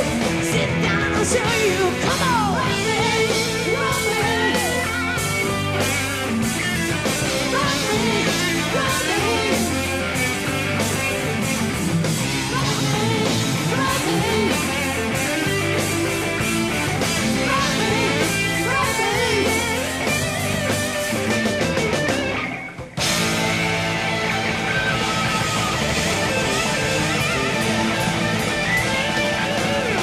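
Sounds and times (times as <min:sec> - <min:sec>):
bass guitar: 0:00.0 - 0:30.0
drums: 0:00.0 - 0:30.0
electric guitar lead: 0:00.0 - 0:30.0.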